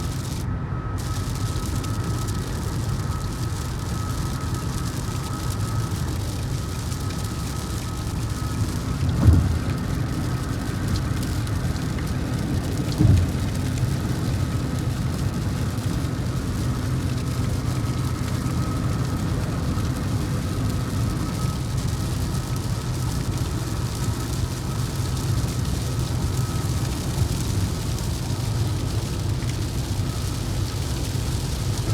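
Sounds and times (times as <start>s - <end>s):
car road noise rumble: 0.0s - 31.9s.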